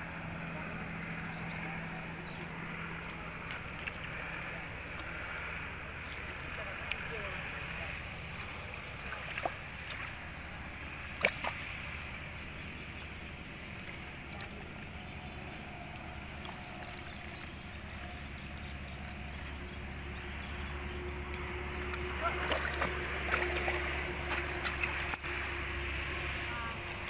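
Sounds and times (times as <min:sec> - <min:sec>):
water sloshing around wading person: 0:00.0 - 0:27.0.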